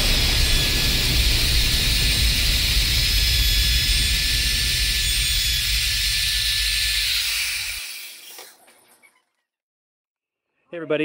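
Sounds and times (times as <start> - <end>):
router whining through wood: 0.0 - 9.2.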